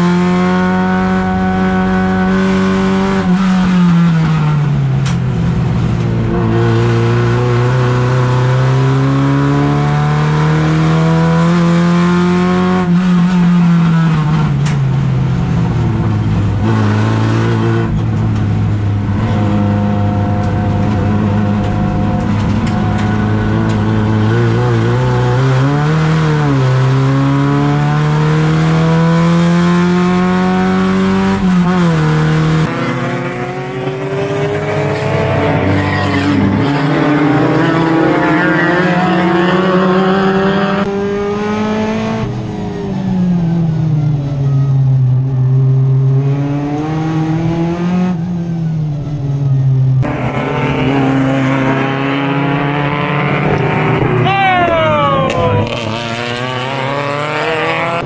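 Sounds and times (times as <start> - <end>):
race car engine revving: 0.0 - 48.7, 50.0 - 58.0.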